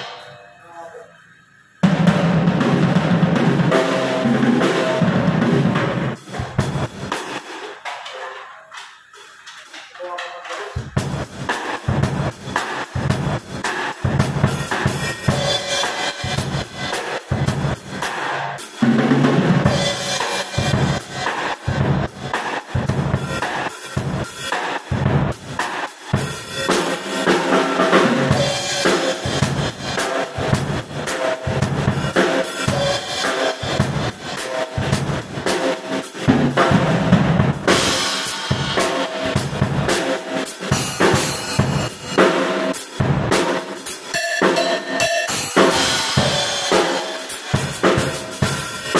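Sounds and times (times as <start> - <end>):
drum kit playing: 0.0 - 0.5, 1.8 - 48.9.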